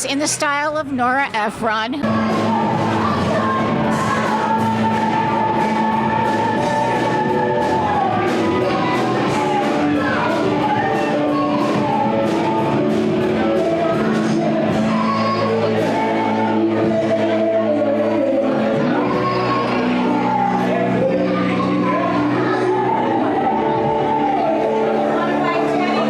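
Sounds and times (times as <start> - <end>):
person singing long notes: 2.0 - 26.0
rock band playing: 2.0 - 26.0.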